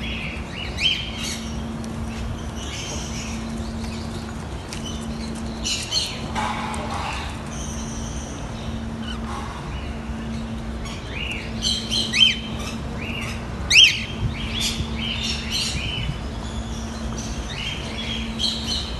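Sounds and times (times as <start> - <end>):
low hum: 0.0 - 18.9.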